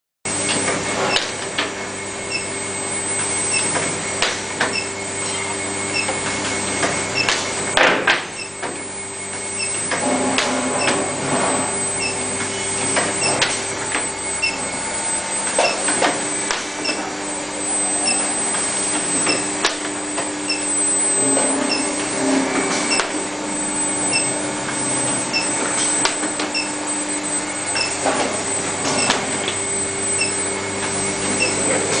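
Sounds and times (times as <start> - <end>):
steady high whine: 0.3 - 32.0.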